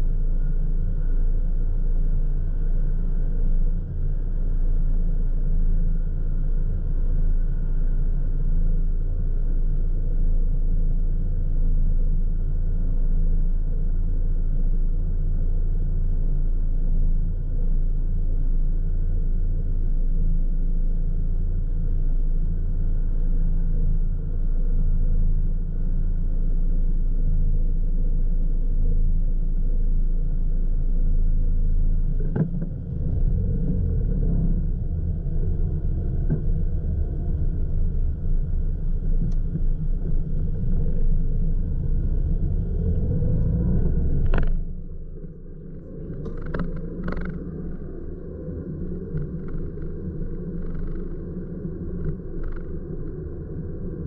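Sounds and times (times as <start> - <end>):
car engine: 0.0 - 54.0.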